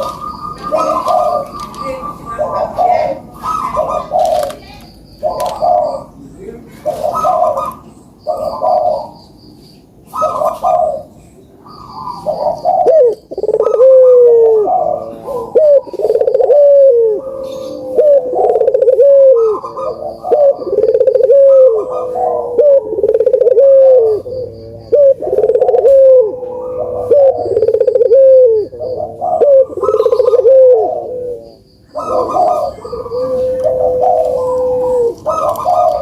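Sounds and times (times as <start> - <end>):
doves cooing: 0.0 - 36.0.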